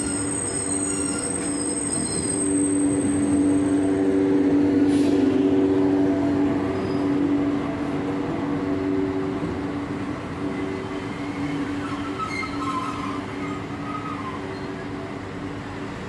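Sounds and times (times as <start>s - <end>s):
train electrical hum: 0.0s - 16.0s.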